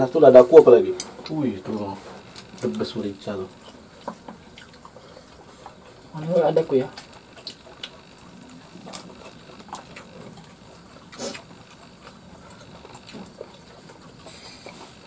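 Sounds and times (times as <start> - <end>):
chewing and lip-smacking: 0.5 - 15.0.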